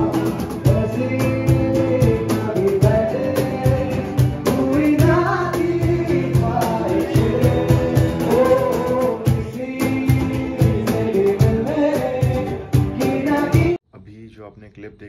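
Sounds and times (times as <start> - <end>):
man singing into microphone: 0.0 - 13.8
steady beat: 0.0 - 13.8
strummed acoustic guitar: 0.0 - 13.8.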